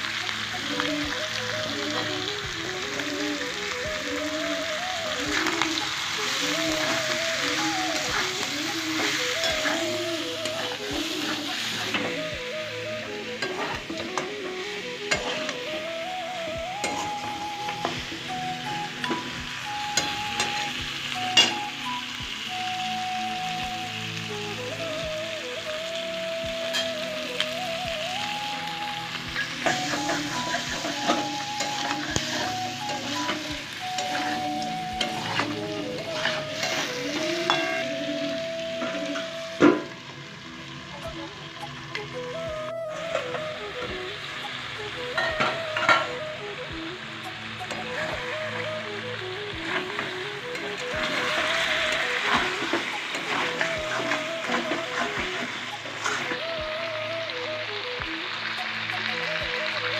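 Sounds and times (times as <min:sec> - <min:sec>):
chicken sizzling in a pan: 0:00.0 - 0:59.9
simple background tune: 0:00.0 - 0:59.9.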